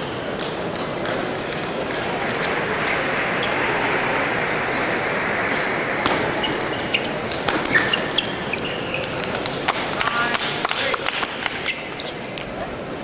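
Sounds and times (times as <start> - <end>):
hum of voices in a hall: 0.0 - 13.0.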